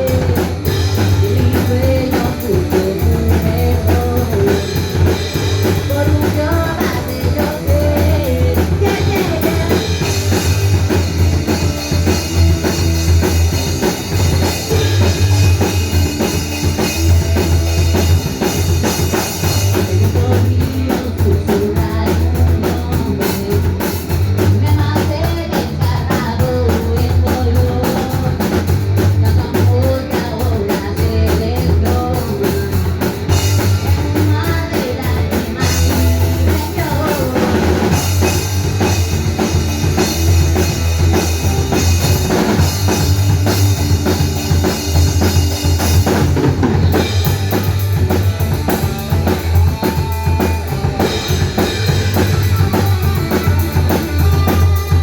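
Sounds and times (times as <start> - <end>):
strong bass line: 0.0 - 24.8, 31.9 - 55.0
busy drum beat: 0.0 - 55.0
rock band playing live: 0.0 - 55.0.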